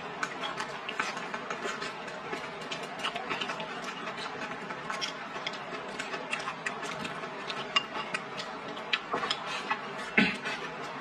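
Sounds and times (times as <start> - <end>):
close-up chewing food: 0.0 - 11.0.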